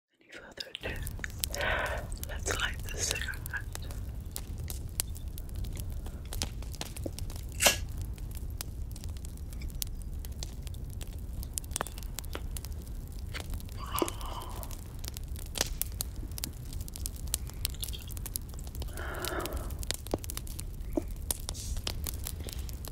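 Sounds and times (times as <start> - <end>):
campfire crackling: 0.6 - 22.9.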